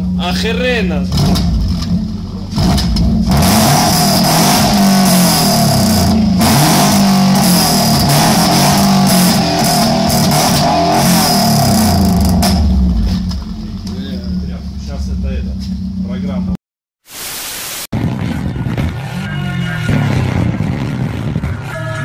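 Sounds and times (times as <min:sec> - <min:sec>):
car engine revving: 0:00.0 - 0:16.6, 0:18.0 - 0:22.0.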